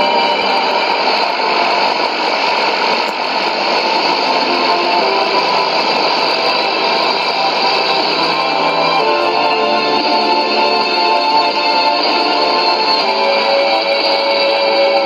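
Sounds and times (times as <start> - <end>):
faint radio music: 0.0 - 15.0
radio static hiss: 0.0 - 15.0.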